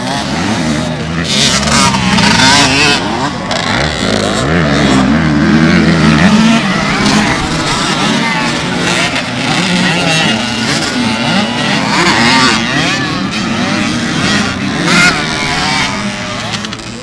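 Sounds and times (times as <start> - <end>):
motocross engines revving: 0.0 - 17.0.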